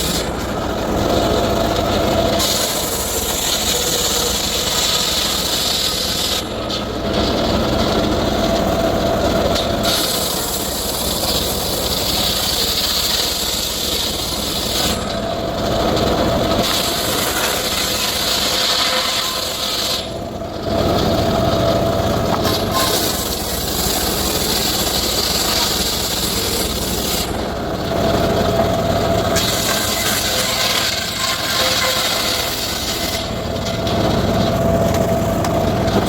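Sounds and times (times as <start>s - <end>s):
circular saw cutting wood: 0.0s - 36.0s.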